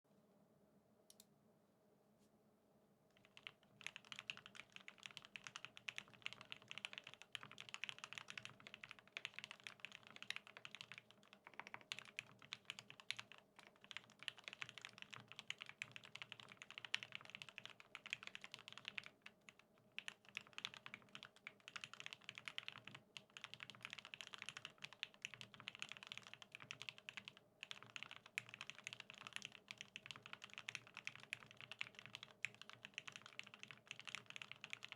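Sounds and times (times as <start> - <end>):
fast typing on mechanical keyboard: 3.2 - 34.9.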